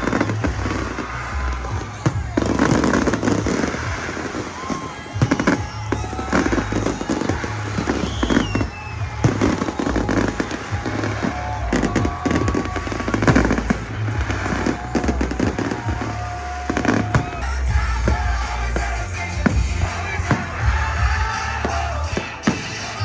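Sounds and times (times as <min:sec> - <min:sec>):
fireworks booming and banging: 0:00.0 - 0:23.0
music with bass line: 0:00.0 - 0:23.0.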